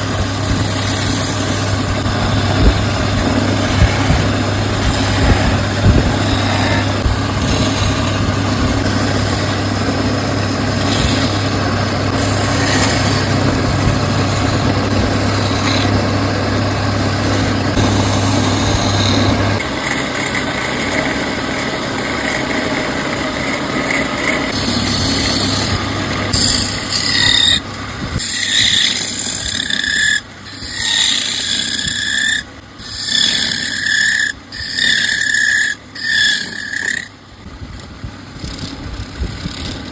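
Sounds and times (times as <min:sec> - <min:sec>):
wood lathe motor humming: 0:00.0 - 0:37.2
tool scraping spinning wood: 0:00.0 - 0:39.9.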